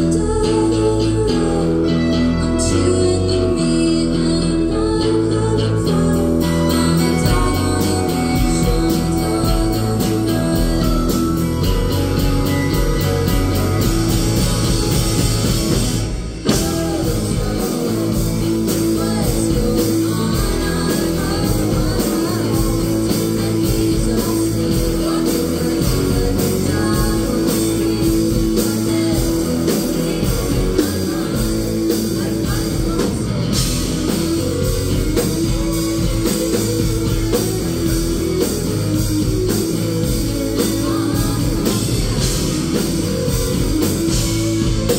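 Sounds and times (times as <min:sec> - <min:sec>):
rock band playing: 0:00.0 - 0:44.9
sung vocals: 0:00.0 - 0:44.9.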